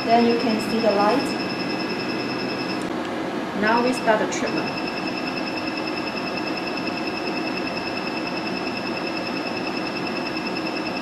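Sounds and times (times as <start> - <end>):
rapid high beeps: 0.0 - 2.8, 4.4 - 11.0
cooling system hum: 0.0 - 11.0.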